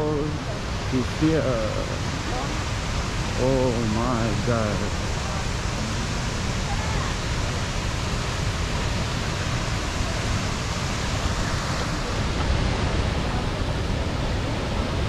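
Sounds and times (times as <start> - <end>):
waterfall plunging into pool: 0.0 - 15.0.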